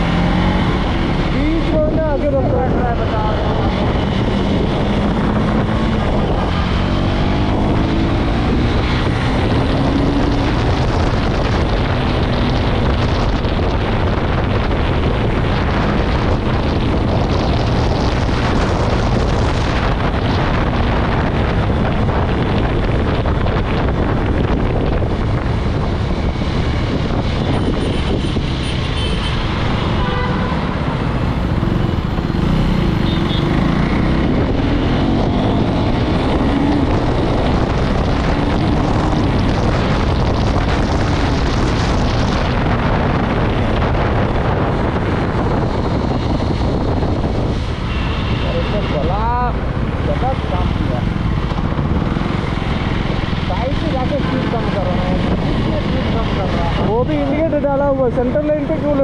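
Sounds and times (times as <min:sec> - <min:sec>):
motorcycle engine accelerating: 0:00.0 - 0:29.8, 0:30.7 - 0:47.7, 0:48.3 - 0:59.0
wind rush on microphone: 0:00.0 - 0:59.0.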